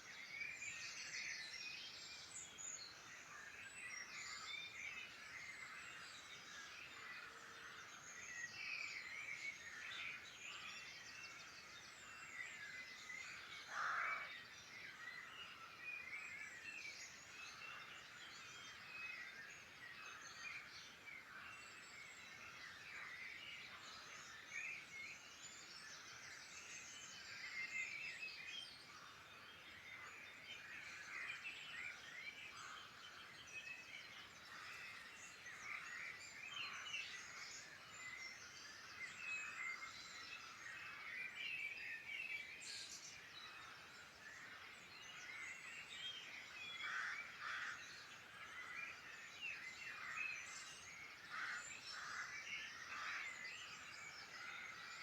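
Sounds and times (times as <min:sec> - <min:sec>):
songbirds chorus: 0:00.0 - 0:55.0.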